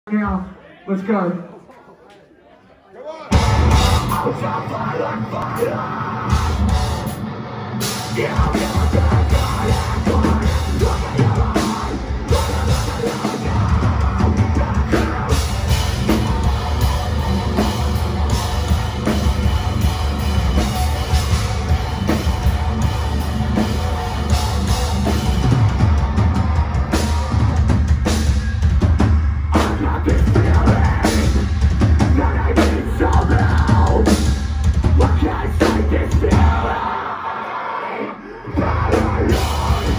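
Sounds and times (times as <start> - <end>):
bass guitar: 3.3 - 37.0, 38.4 - 39.9
distorted guitars: 3.3 - 39.9
drums: 3.3 - 39.9.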